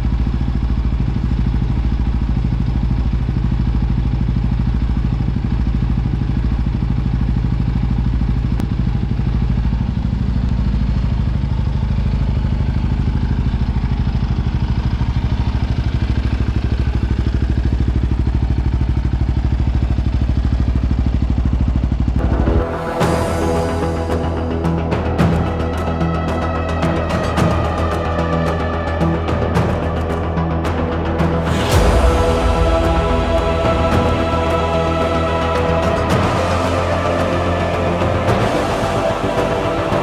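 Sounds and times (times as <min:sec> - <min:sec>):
engine running steadily: 0:00.0 - 0:40.0.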